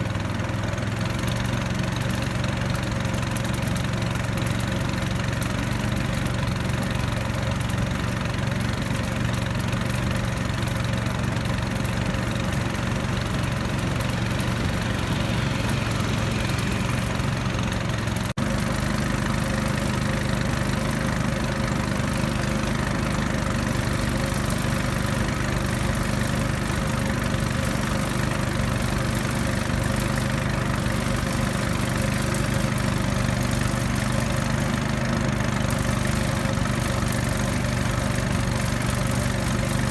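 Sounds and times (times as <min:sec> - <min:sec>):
small outboard motor running: 0:00.0 - 0:39.9.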